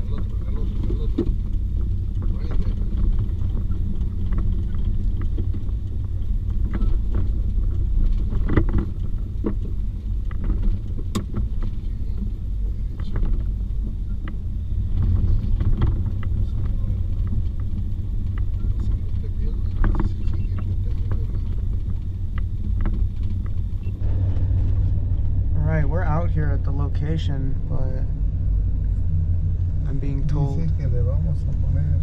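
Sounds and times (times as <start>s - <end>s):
light rattles and clicks: 0.0s - 32.0s
truck engine and road rumble: 0.0s - 32.0s.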